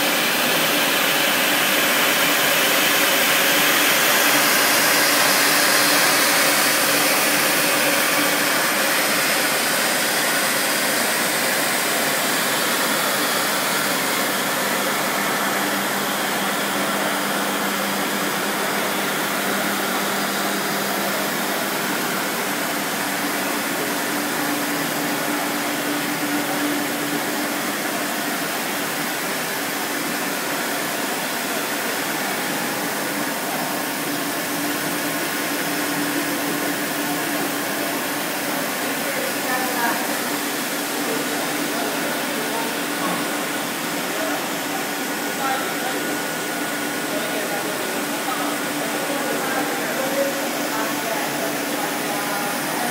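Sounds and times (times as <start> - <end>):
water spraying from nozzles: 0.0 - 52.9.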